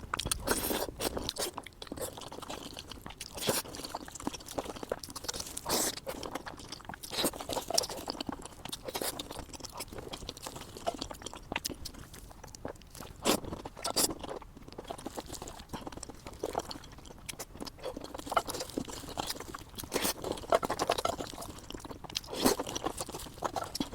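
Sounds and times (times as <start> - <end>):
person chewing and crunching: 0.0 - 23.9.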